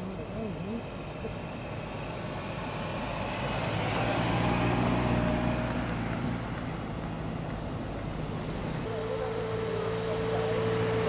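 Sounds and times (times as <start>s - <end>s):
car driving slowly past: 0.0s - 11.0s
thin engine whine: 0.0s - 11.0s.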